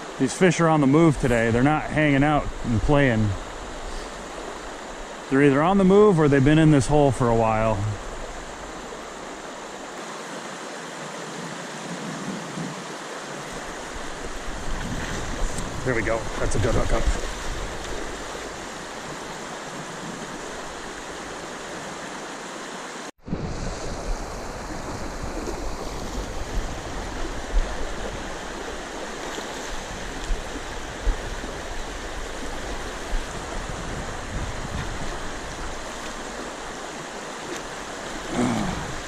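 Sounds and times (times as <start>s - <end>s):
river rushing over rocks: 0.0s - 23.1s, 23.8s - 39.0s.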